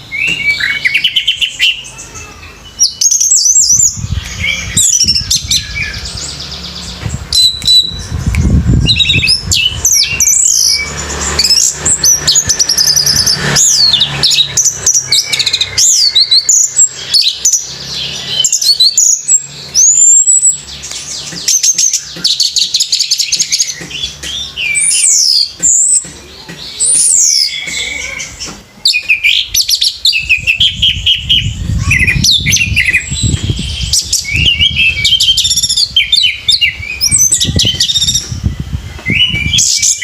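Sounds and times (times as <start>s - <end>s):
thrush singing: 0.0s - 40.0s.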